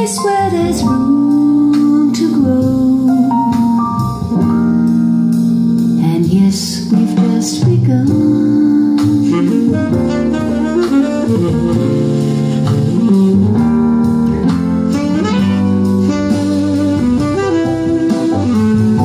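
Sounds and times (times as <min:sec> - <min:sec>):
instrumental jazz through speakers: 0:00.0 - 0:19.0.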